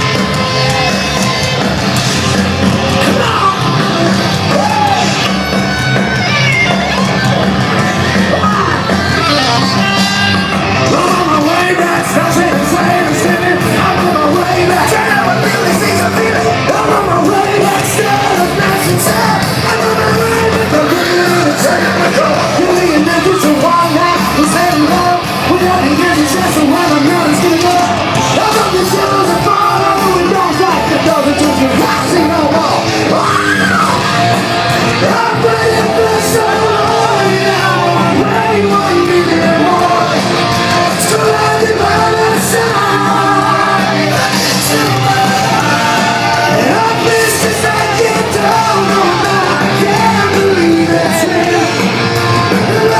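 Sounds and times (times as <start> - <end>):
live rock band playing: 0.0 - 52.9
person singing: 8.2 - 52.9.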